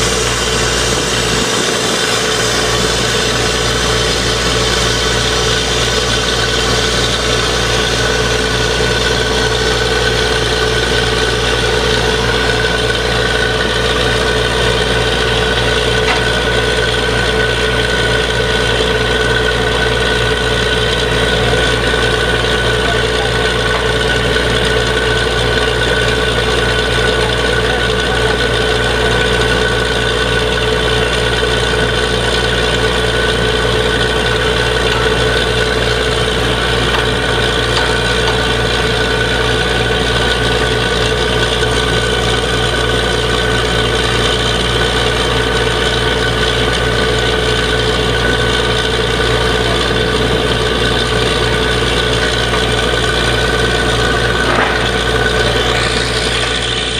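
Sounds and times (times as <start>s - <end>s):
drilling rig engine drone: 0.0s - 56.9s
steady whine: 0.0s - 56.9s.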